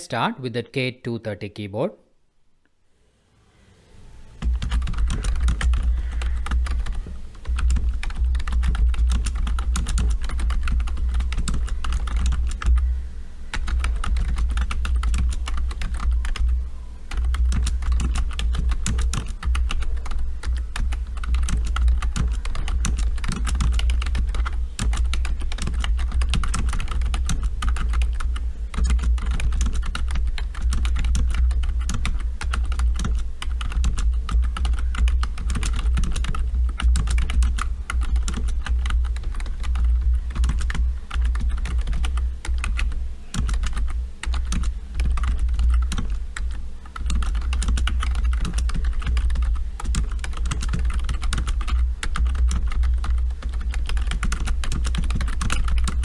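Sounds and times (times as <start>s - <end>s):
fast keyboard typing: 4.4s - 12.9s, 13.5s - 56.0s.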